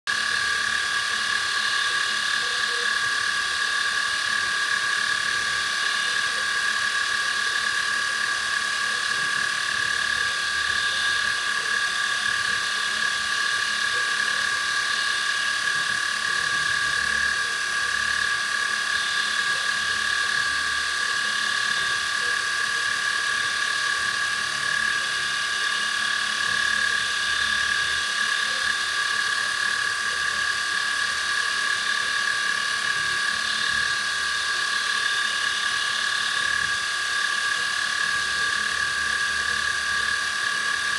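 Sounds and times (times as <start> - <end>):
milling machine whine: 0.1 - 40.9.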